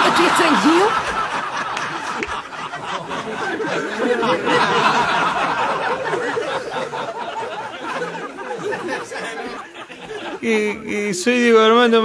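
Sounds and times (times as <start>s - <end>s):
audience laughing: 0.0s - 10.9s.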